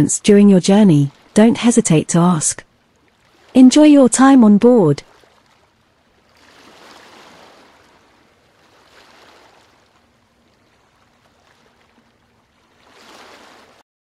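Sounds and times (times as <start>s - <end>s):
faint ocean waves: 0.0s - 13.8s.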